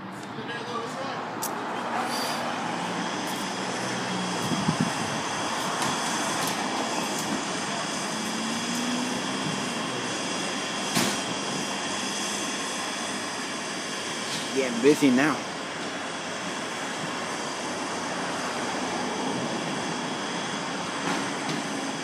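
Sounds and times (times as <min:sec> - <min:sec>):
fire engine idling: 0:00.0 - 0:22.0.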